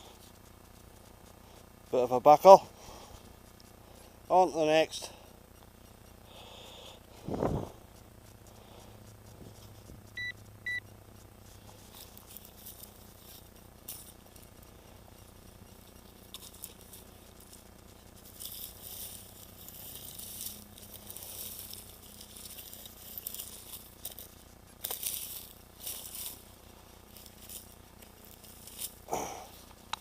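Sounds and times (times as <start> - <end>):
rustling and crunching in a field: 0.0 - 30.0.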